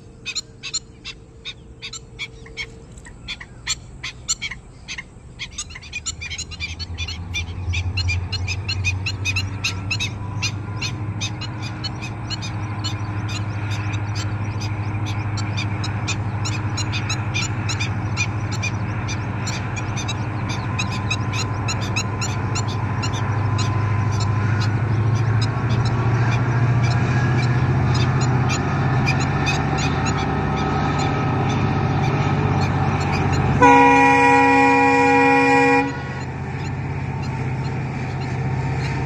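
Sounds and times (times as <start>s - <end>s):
bird calling in sharp notes: 0.0s - 39.0s
distant diesel locomotive drone: 0.0s - 39.0s.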